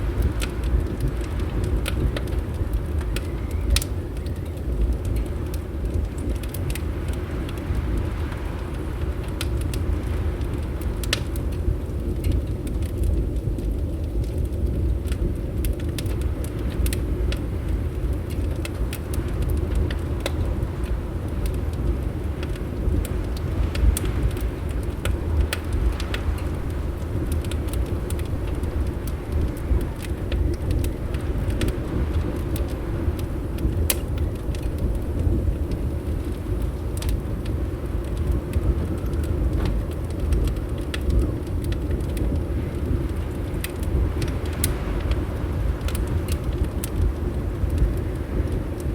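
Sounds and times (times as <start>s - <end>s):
fire crackling and popping: 0.0s - 48.9s
low fire rumble: 0.0s - 48.9s.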